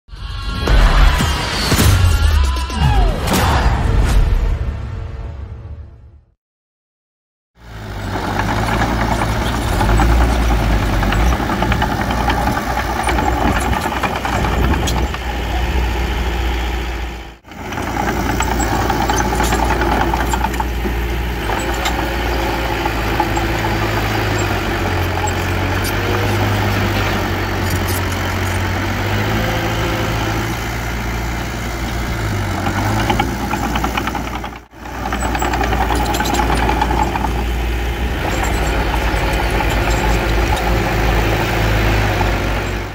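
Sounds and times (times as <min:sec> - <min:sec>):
diesel engines running: 0:07.6 - 0:42.9.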